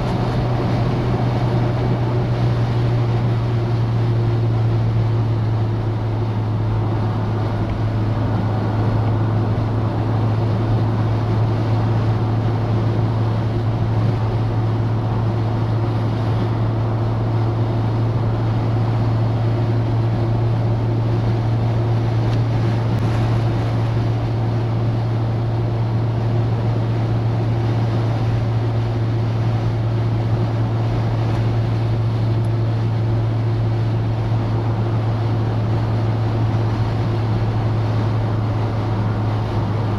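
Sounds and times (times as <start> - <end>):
car driving low drone: 0.0 - 39.9.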